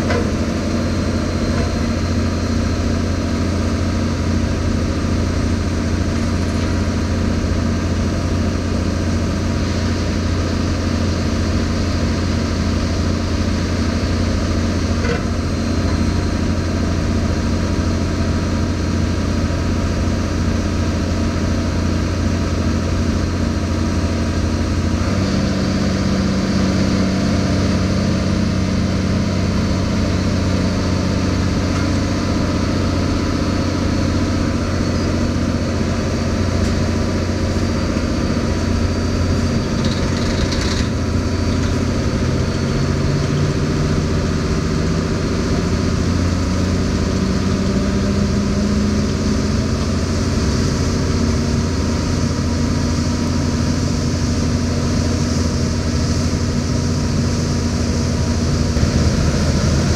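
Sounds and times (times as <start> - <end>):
heavy diesel engine humming: 0.0 - 59.9.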